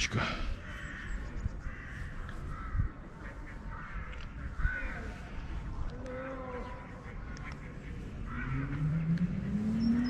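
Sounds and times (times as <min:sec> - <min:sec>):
bird calls: 0:00.5 - 0:10.0.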